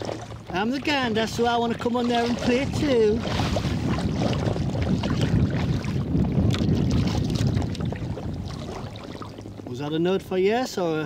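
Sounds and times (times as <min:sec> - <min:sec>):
water lapping around kayak: 0:00.0 - 0:11.0
wind on microphone: 0:00.0 - 0:11.0.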